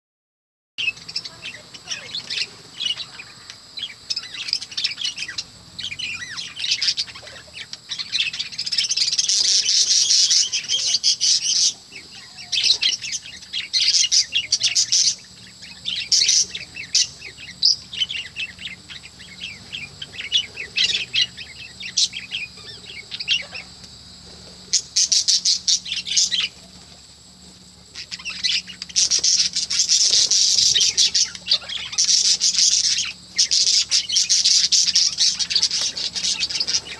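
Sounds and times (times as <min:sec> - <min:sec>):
budgerigar chirps and warbles: 0:00.8 - 0:23.8, 0:24.7 - 0:26.8, 0:27.9 - 0:36.9.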